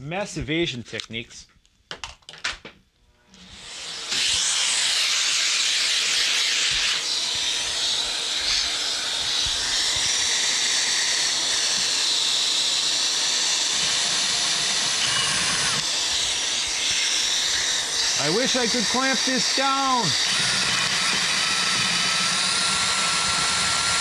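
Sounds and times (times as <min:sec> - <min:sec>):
vacuum cleaner running: 0:03.4 - 0:24.0.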